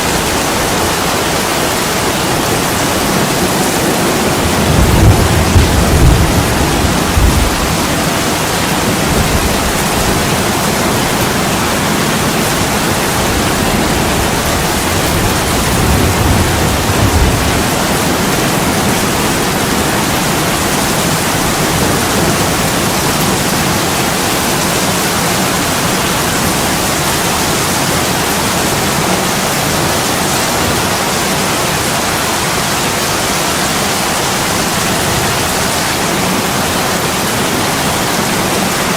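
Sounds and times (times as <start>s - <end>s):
heavy rain on window glass: 0.0s - 38.9s.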